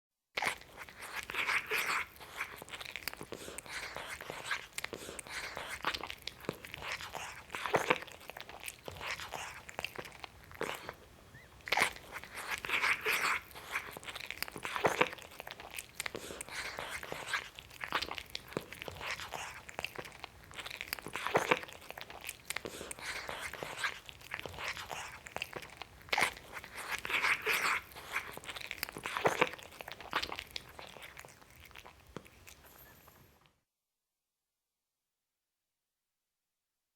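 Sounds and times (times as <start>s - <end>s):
cat eating wet clicks: 0.4s - 11.0s, 11.6s - 32.7s.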